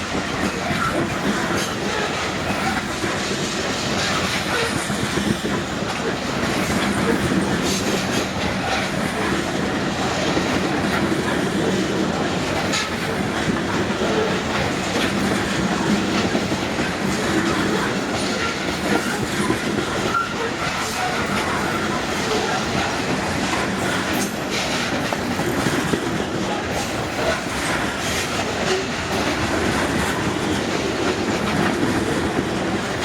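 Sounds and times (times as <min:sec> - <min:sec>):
freight train rolling past: 0:00.0 - 0:33.0
steel wheels clattering on rails: 0:00.0 - 0:33.0.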